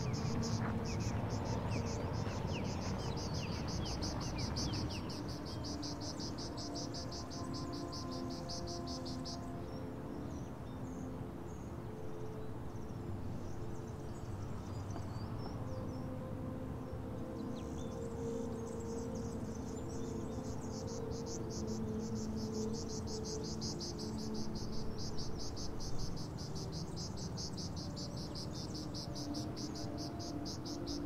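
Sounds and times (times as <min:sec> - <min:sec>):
soft held soundtrack notes: 0:00.0 - 0:31.0.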